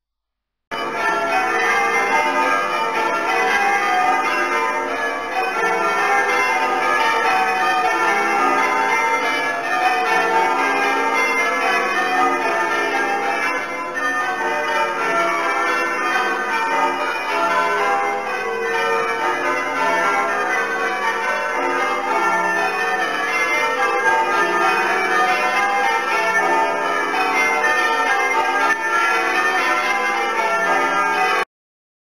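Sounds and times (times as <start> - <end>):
church bells change ringing: 0.7 - 31.5.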